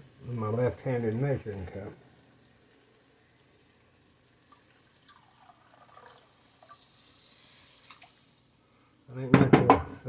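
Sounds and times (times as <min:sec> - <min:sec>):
water trickling into a cup: 0:00.0 - 0:08.6
small drips and clicks: 0:00.0 - 0:08.9.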